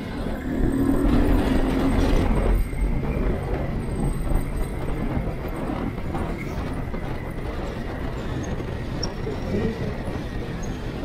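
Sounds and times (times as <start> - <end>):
wind rumbling: 0.0 - 11.0.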